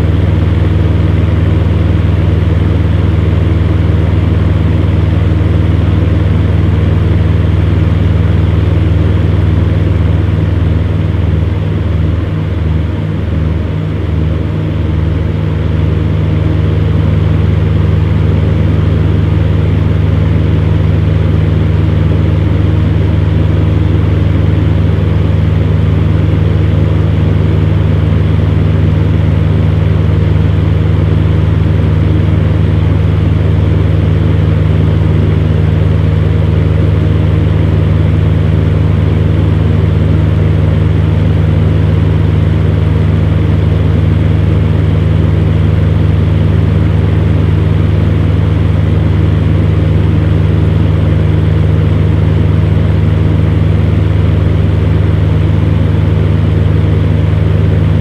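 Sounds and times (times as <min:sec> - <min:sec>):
fan heater humming and whirring: 0:00.0 - 0:58.0.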